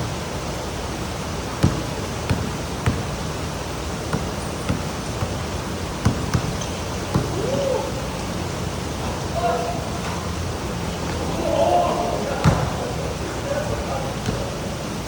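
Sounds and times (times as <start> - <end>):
pouring rain: 0.0 - 15.0.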